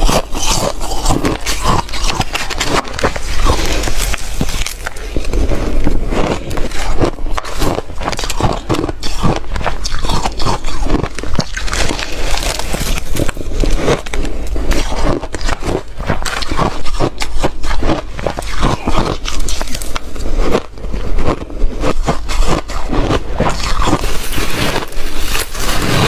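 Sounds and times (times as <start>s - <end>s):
chewing ice crunches: 0.0s - 26.0s.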